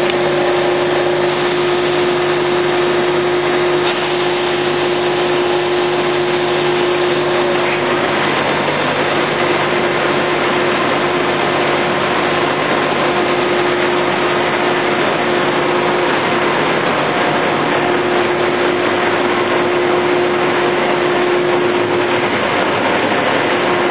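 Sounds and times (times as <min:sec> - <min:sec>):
machinery humming: 0:00.0 - 0:23.9.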